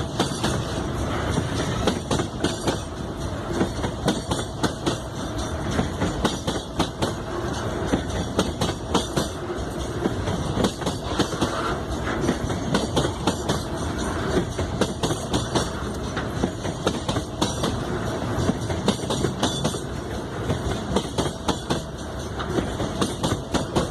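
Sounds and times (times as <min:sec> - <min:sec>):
freight train rumble: 0:00.0 - 0:23.9
train wheels clacking over rail joints: 0:00.0 - 0:23.9.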